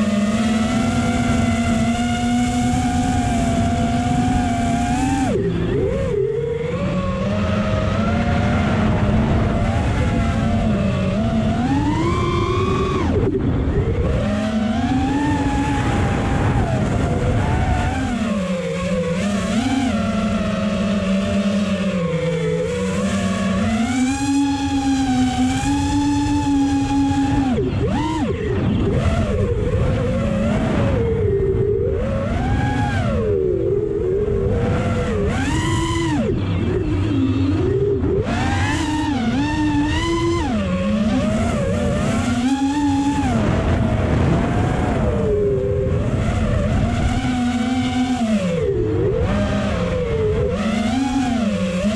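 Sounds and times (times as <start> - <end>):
drone motors whining: 0.0 - 51.9
low wind rumble: 0.0 - 51.9.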